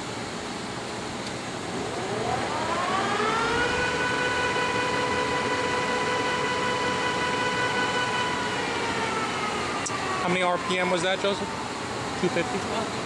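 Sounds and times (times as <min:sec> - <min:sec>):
lathe gear whine: 0:01.7 - 0:13.0.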